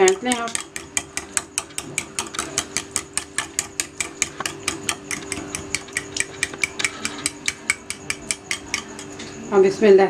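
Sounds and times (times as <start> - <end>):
utensil clicking against glass bowl: 0.0 - 9.2.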